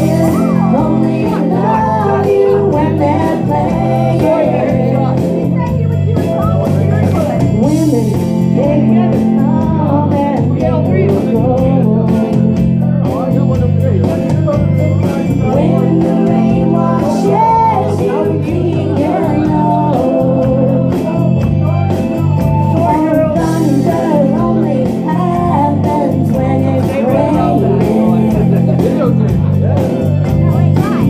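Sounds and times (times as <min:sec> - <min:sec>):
woman singing into microphone: 0:00.0 - 0:12.8, 0:15.4 - 0:21.5, 0:22.6 - 0:29.0
amplified backing music with bass: 0:00.0 - 0:31.0.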